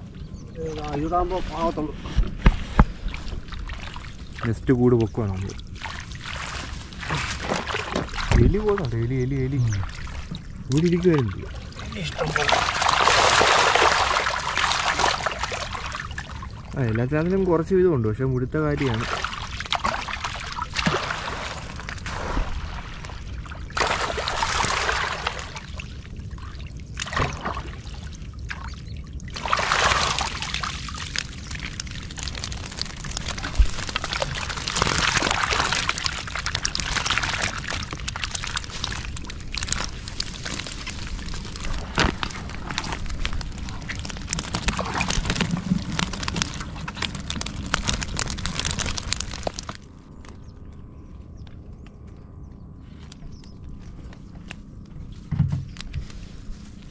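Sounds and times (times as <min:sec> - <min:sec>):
water sloshing and pouring: 0:01.3 - 0:17.0, 0:18.7 - 0:50.0.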